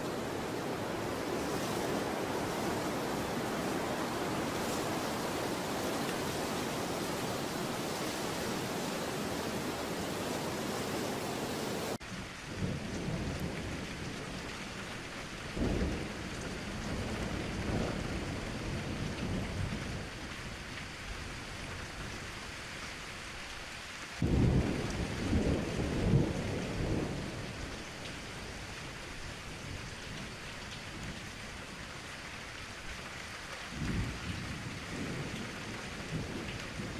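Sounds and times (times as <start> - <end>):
rain falling: 0.0 - 36.9.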